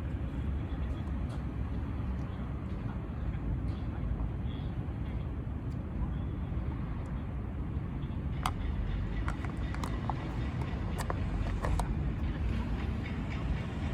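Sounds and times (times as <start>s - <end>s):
low outdoor rumble: 0.0s - 13.9s.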